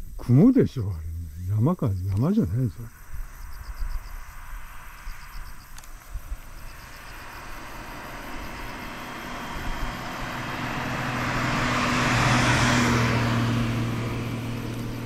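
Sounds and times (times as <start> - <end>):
low steady engine hum: 0.0 - 15.0
car passing by: 2.9 - 15.0.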